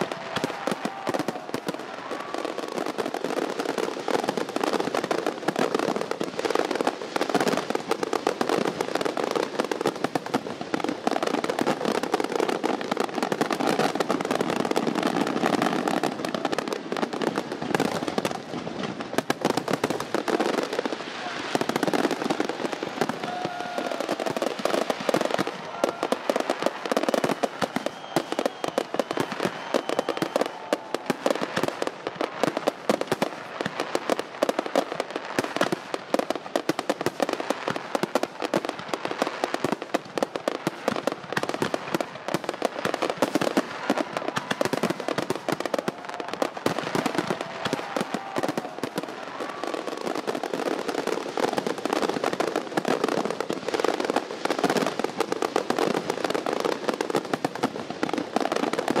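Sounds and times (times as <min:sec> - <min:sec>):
fireworks crackling and banging: 0:00.0 - 0:59.0.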